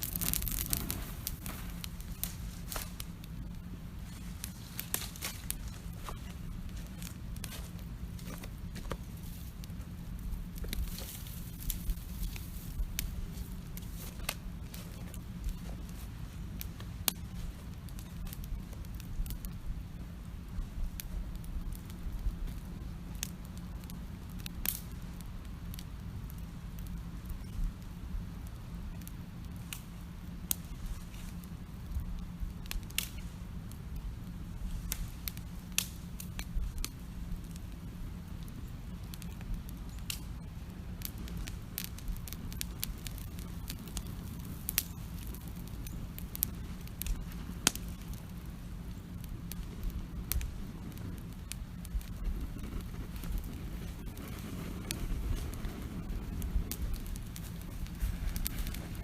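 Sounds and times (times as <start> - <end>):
campfire pops and snaps: 0.0 - 16.0, 16.6 - 19.6, 20.5 - 27.9, 28.9 - 33.8, 34.6 - 59.0
low steady fire rumble: 0.0 - 59.0.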